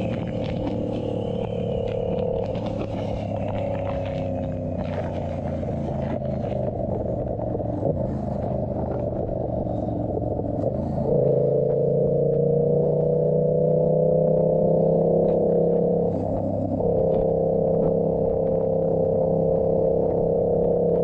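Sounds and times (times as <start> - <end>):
motorcycle engine droning: 0.0 - 21.0.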